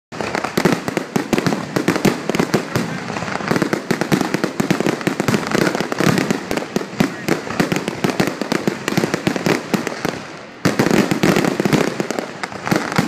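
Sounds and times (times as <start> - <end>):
fireworks bursting: 0.1 - 13.0.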